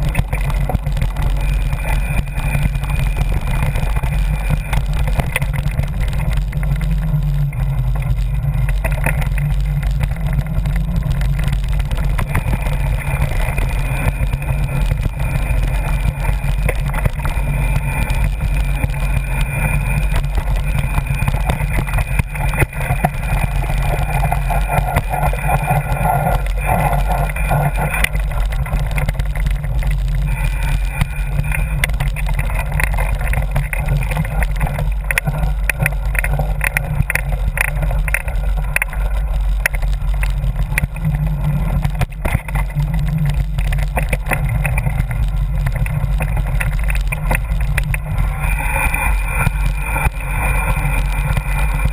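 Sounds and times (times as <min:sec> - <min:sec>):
bike rattling and knocking: 0:00.0 - 0:51.9
wind rumble on microphone: 0:00.0 - 0:51.9.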